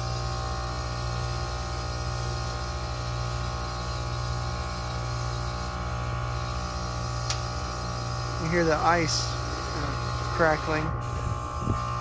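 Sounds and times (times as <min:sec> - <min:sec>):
heat pump low hum: 0:00.0 - 0:12.0.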